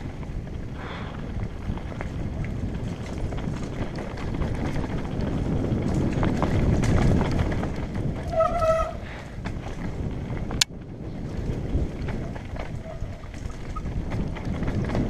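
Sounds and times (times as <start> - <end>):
bike frame rattling and clicking: 0.0 - 15.0
bike tyres rumbling over dirt: 0.0 - 15.0
wind on microphone: 0.0 - 15.0.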